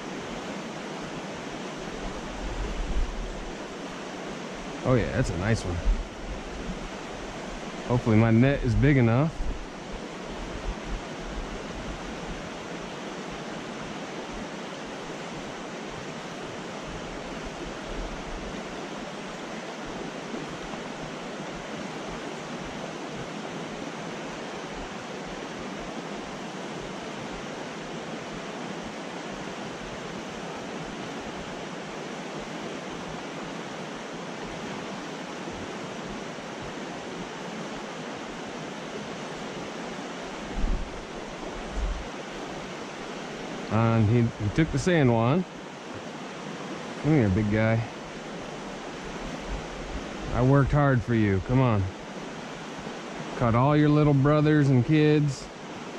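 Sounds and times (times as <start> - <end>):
mountain creek rushing over rocks: 0.0 - 55.9.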